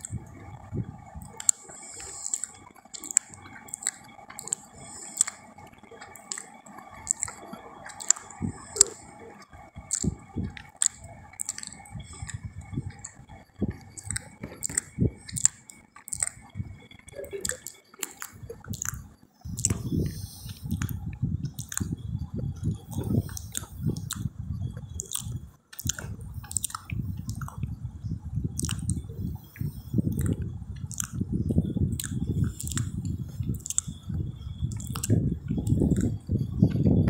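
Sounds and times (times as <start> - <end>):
faint steady hum: 0.0 - 37.0
wet chewing and lip-smacking: 0.0 - 37.0.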